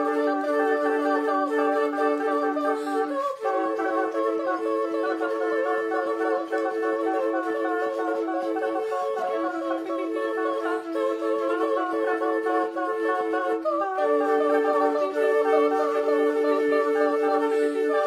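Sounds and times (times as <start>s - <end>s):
flutes holding sustained notes: 0.0s - 18.0s.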